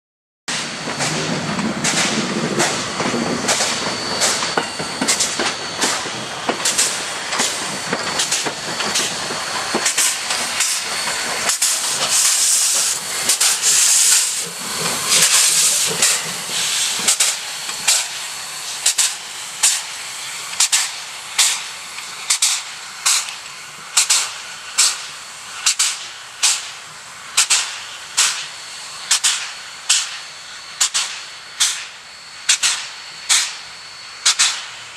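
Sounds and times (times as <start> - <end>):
steam hissing from cylinders: 0.5 - 34.9
steam locomotive exhaust beats: 0.5 - 34.9.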